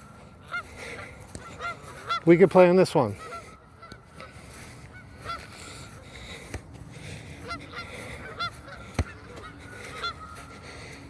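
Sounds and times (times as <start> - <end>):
flock of gulls calling: 0.0 - 6.0, 7.4 - 11.0.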